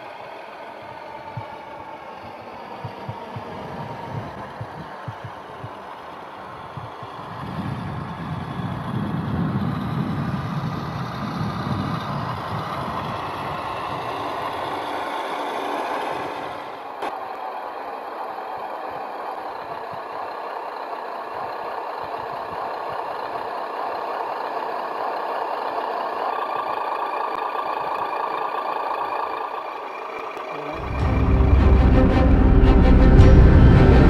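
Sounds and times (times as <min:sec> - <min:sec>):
toy car motor with tyre noise: 0:00.0 - 0:30.8.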